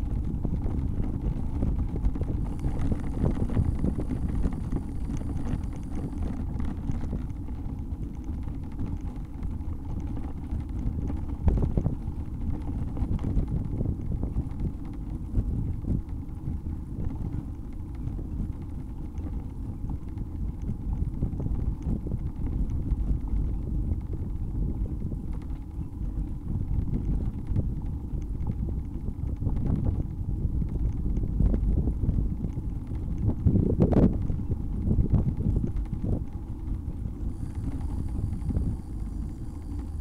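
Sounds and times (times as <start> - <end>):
bike rolling rumble: 0.0 - 40.0
wind buffeting microphone: 0.0 - 40.0.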